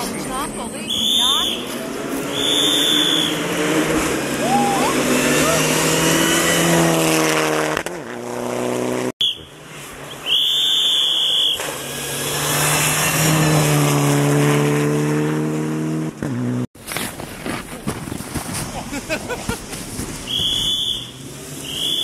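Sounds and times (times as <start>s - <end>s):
rally cars passing at speed: 0.0s - 16.7s, 18.1s - 22.0s.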